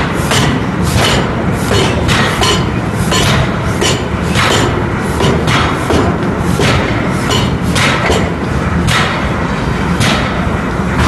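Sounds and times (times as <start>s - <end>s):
forging hammer metallic clanks: 0.0s - 9.4s
low machine rumble: 0.0s - 11.0s.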